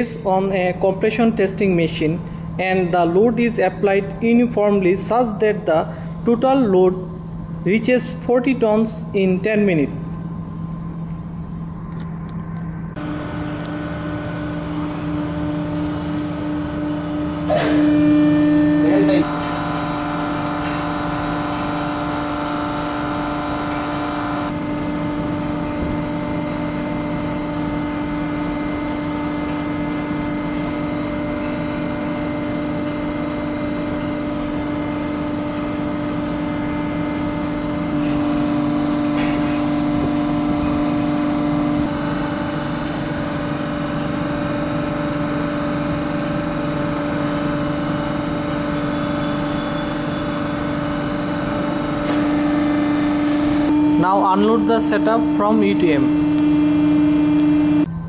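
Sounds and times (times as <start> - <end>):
high whine: 0.0 - 58.0
hydraulic pump humming: 0.0 - 58.0.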